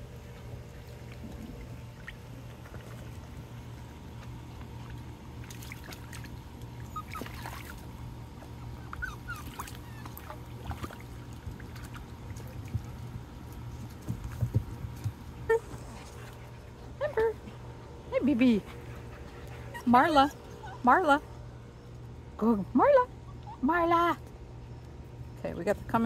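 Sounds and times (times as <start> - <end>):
puppies splashing in water: 0.0 - 21.2
steady low hum: 0.0 - 26.0.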